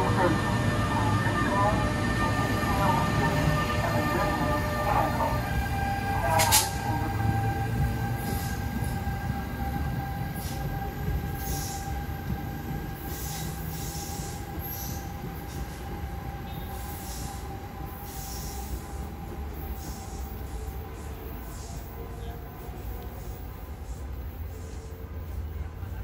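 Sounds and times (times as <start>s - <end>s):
electric train rolling: 0.0s - 26.0s.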